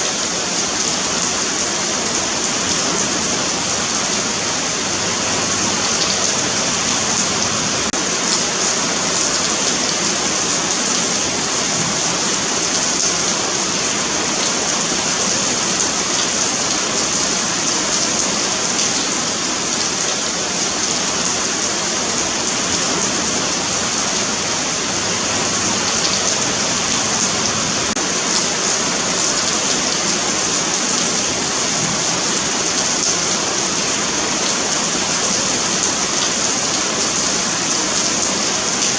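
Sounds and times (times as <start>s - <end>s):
rain on pavement: 0.0s - 38.9s.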